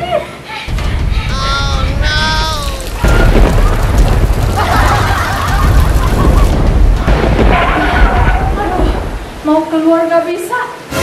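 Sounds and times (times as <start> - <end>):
thunder rumbling: 0.7 - 9.8
falling rain: 0.7 - 11.0.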